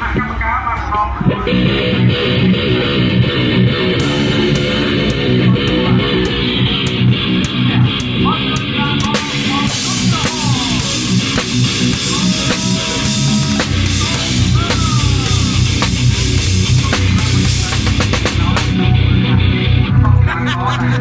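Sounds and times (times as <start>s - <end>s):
rock music with guitar: 1.4s - 20.8s
drum kit playing: 1.5s - 19.0s.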